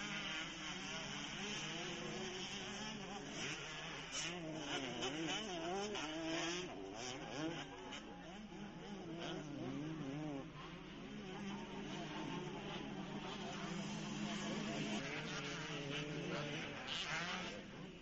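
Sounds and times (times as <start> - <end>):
dirt bike engines buzzing: 0.0 - 18.0.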